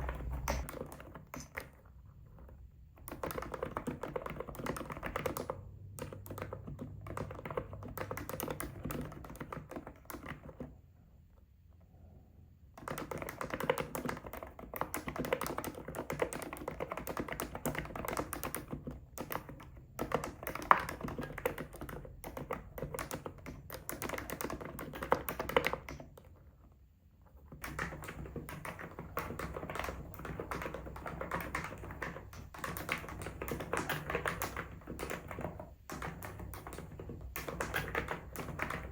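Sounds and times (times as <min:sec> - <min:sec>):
keyboard typing: 0:00.0 - 0:10.8, 0:12.8 - 0:26.4, 0:27.3 - 0:38.9.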